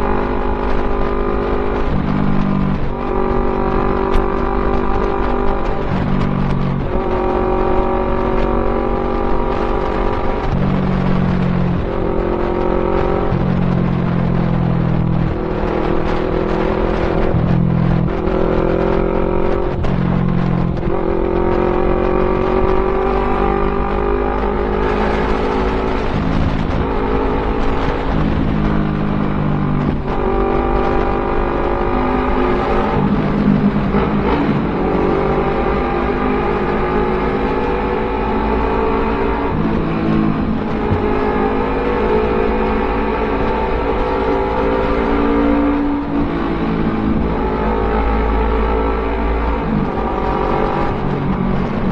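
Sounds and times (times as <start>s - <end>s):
motorcycle engine accelerating hard: 0.0s - 51.9s.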